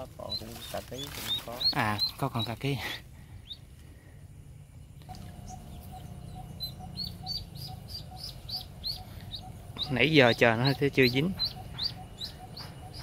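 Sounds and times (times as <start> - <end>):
duckling peeping: 0.2 - 2.7, 3.4 - 3.7, 5.0 - 13.0.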